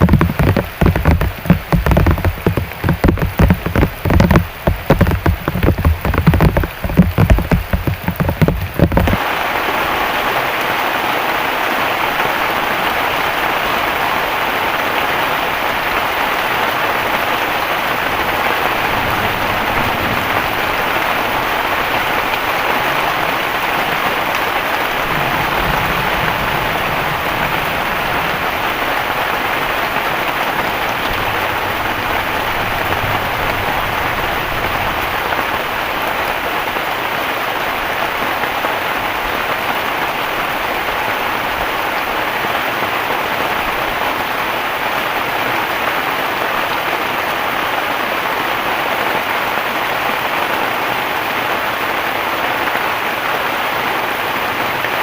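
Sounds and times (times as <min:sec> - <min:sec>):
large raindrops thudding: 0:00.0 - 0:50.8
heavy rain hissing: 0:00.0 - 0:55.0.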